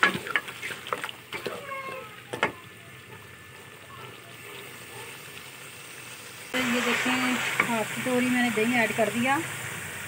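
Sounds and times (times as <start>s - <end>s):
masala frying sizzle: 0.0s - 10.0s.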